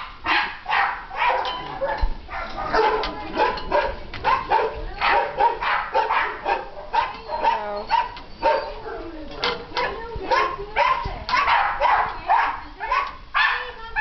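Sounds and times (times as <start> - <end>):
puppies barking and yipping: 0.0 - 14.0.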